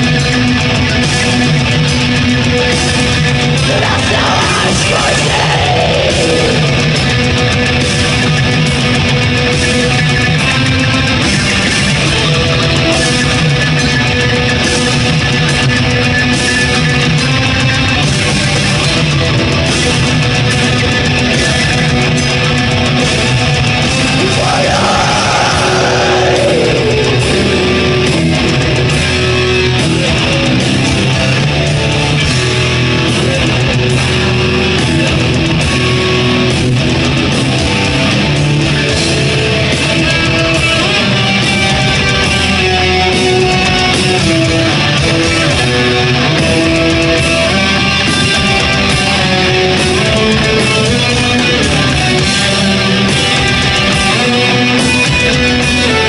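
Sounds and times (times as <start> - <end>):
black metal band playing: 0.0 - 56.0
distorted electric guitars: 0.0 - 56.0
drum kit: 0.0 - 56.0.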